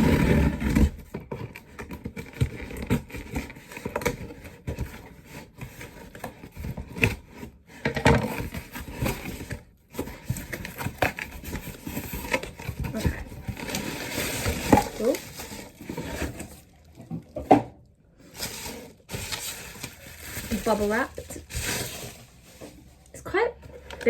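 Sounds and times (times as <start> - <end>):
package scraping and rustling: 0.0 - 17.5, 18.2 - 23.1.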